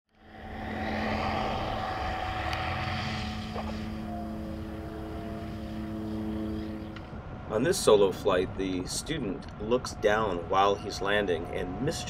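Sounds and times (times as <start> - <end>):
aircraft engine and propeller droning: 0.1 - 12.0.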